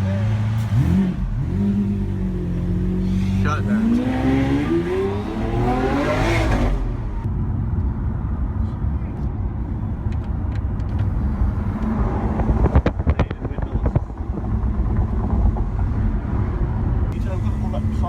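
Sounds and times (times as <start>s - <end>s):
sports car engine accelerating: 0.0s - 7.3s, 10.3s - 18.0s
low engine and road rumble: 0.0s - 18.0s.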